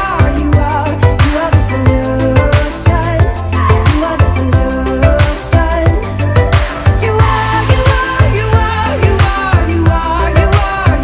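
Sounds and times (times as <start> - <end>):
pop music with drum beat: 0.0 - 11.0.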